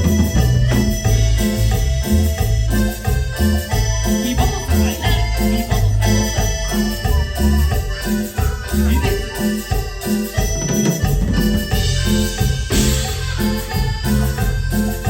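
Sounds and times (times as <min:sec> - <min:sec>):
live band playing latin music: 0:00.0 - 0:15.0.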